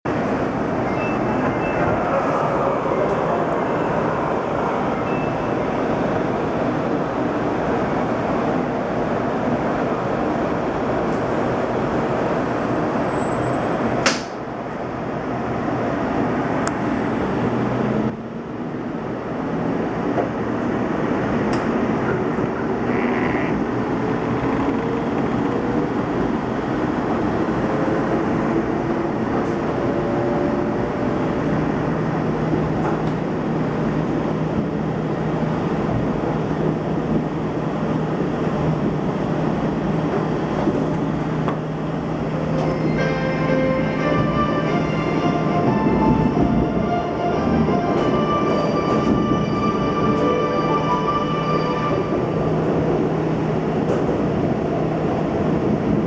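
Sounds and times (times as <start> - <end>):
train running noise: 0.1 - 56.0.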